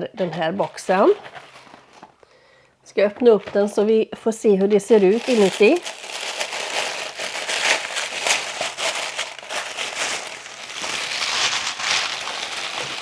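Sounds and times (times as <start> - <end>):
packaging crinkling and rustling: 0.2 - 2.2, 3.0 - 4.0, 4.6 - 13.0.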